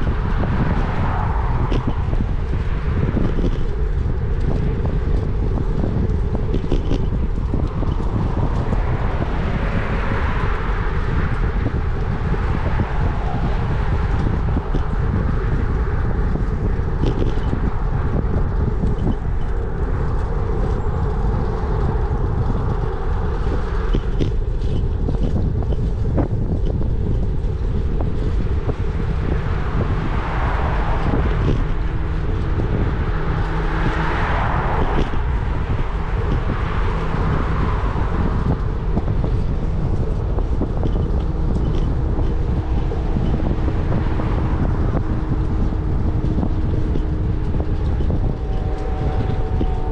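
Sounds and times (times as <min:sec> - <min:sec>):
road traffic: 0:00.0 - 0:49.9
wind buffeting microphone: 0:00.0 - 0:49.9.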